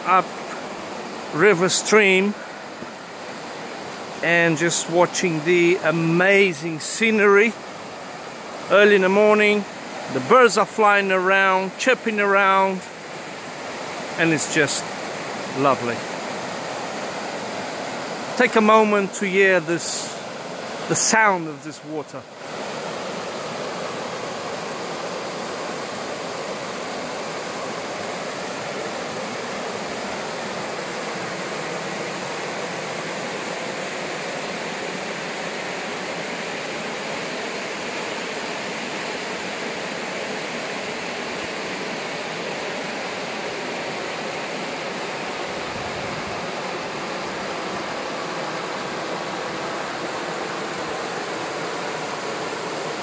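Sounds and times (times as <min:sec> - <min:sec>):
water rushing over rocks: 0:00.0 - 0:53.0.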